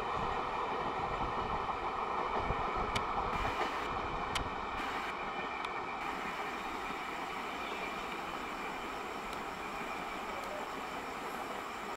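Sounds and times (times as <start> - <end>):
train rumbling past at speed: 0.0 - 11.9.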